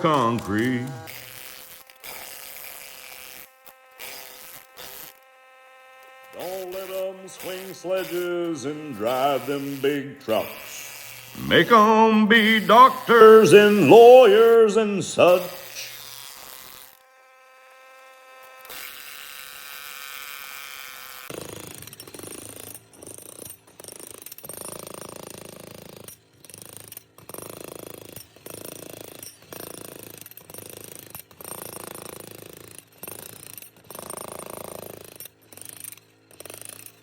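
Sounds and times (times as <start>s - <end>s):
jackhammer breaking concrete: 0.0s - 37.0s.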